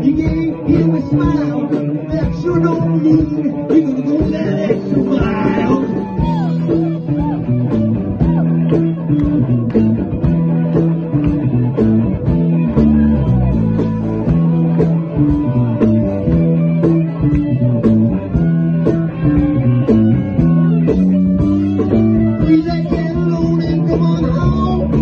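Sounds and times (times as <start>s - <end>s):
bass guitar: 0.0s - 25.0s
drum kit steady beat: 0.0s - 25.0s
electric guitars: 0.0s - 25.0s.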